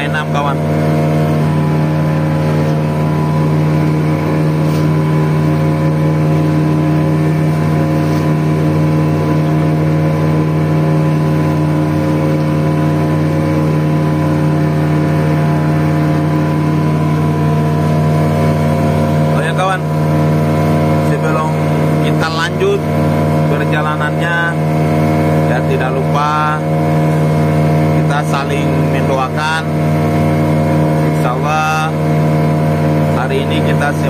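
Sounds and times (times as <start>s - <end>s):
boat motor droning: 0.0s - 34.0s.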